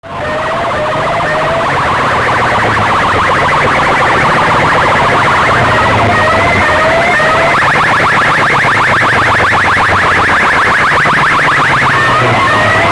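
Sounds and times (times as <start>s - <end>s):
electronic siren warble: 0.1s - 12.9s.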